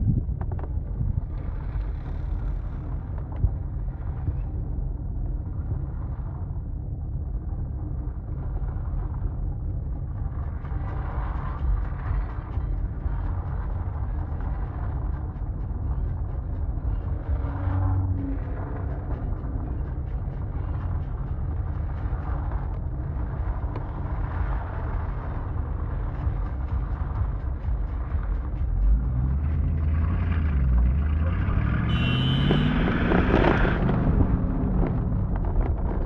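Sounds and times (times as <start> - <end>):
car engine low rumble: 0.0 - 36.0.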